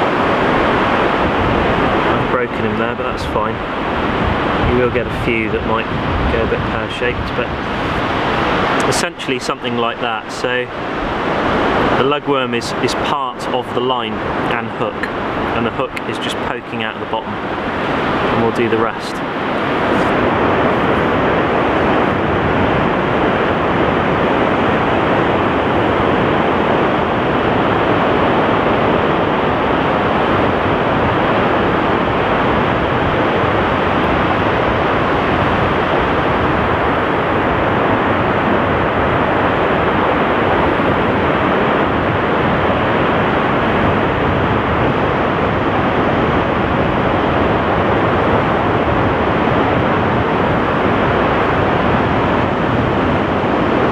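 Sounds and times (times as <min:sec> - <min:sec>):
seashore rushing noise: 0:00.0 - 0:53.9.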